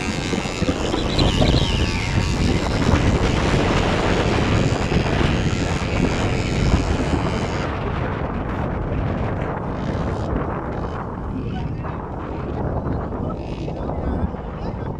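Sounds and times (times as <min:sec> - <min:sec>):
atv engine running hard: 0:00.0 - 0:14.9.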